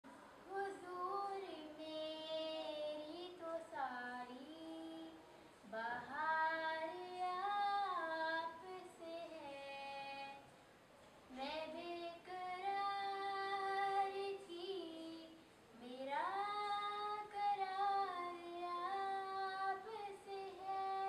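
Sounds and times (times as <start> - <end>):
girl singing unaccompanied: 0.1 - 10.5, 11.3 - 21.0.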